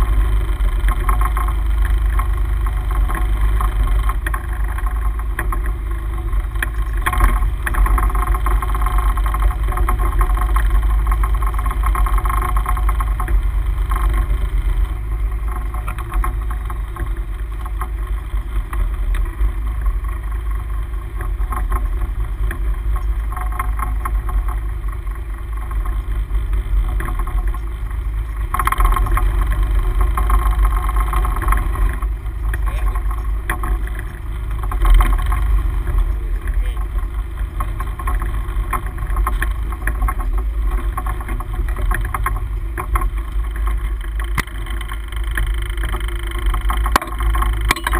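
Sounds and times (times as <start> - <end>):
boat motor drone: 0.0 - 47.9.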